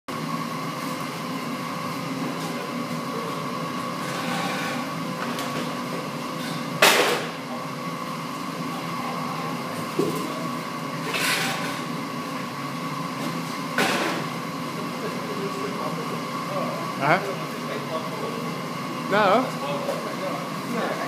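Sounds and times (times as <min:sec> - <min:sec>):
mechanical hum with high whine: 0:00.1 - 0:21.0.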